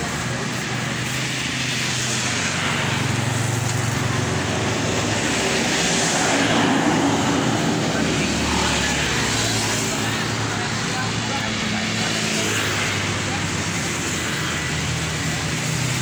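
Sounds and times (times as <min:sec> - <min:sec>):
motorcycles and scooters passing: 0:00.0 - 0:16.0.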